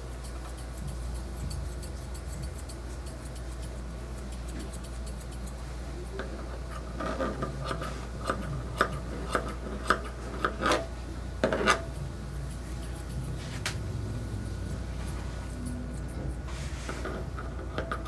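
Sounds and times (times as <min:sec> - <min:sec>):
shears snipping fur: 0:00.0 - 0:18.0.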